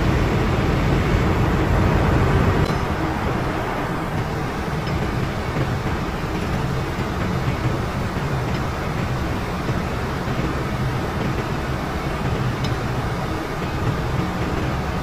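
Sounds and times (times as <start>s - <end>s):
ship machinery droning: 0.0s - 15.0s.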